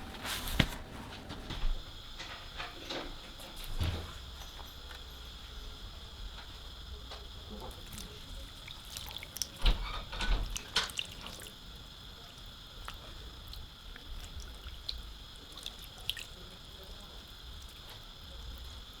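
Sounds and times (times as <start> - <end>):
small drips and ticks: 3.6 - 19.0.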